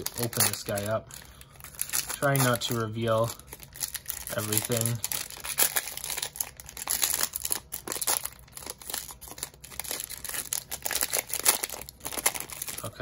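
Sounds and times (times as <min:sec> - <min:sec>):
card pack wrapper crinkling: 0:00.0 - 0:13.0.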